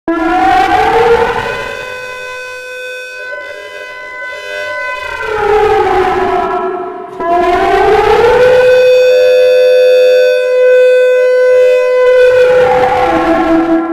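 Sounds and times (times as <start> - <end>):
civil defense siren wailing: 0.1 - 13.9.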